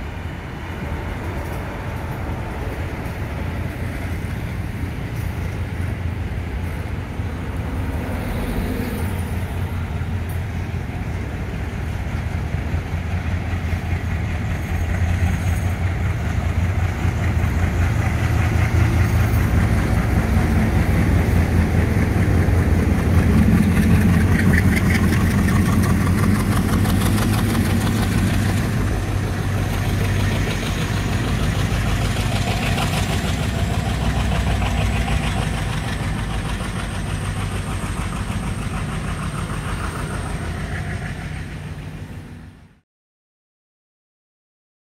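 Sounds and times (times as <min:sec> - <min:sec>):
diesel locomotive rumble: 0:00.0 - 0:42.8.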